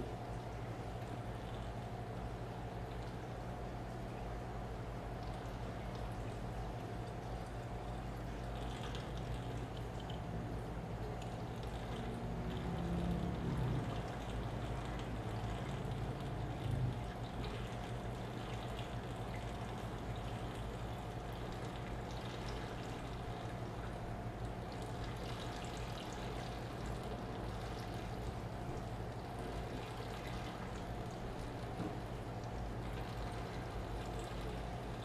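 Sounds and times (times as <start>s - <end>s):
water trickling and splashing: 0.0s - 35.0s.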